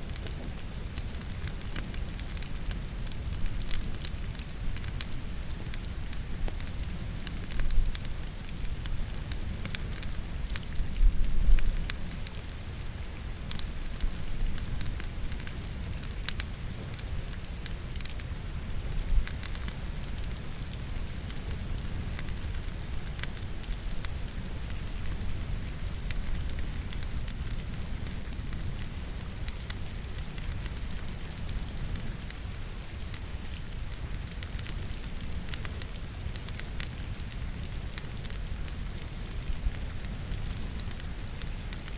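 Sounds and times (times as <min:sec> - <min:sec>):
logs crackling in fireplace: 0:00.0 - 0:41.9
steady rain: 0:00.0 - 0:41.9.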